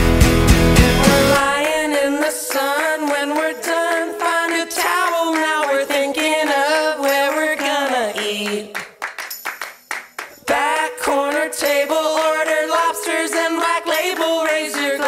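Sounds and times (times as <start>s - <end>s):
pop music: 0.0s - 8.8s, 10.5s - 15.0s
voices singing long notes: 0.8s - 8.8s, 10.4s - 15.0s.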